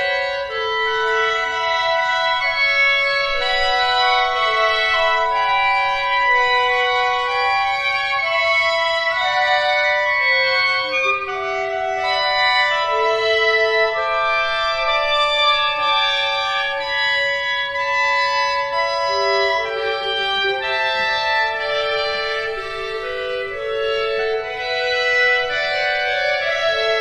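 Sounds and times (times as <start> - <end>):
clarinet ensemble long notes: 0.0 - 27.0.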